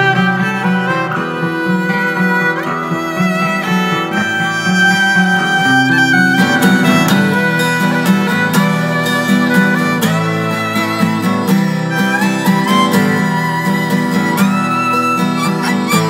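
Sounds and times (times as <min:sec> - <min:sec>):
acoustic guitar: 0:00.0 - 0:16.0
violin melody with sliding notes: 0:00.0 - 0:16.0.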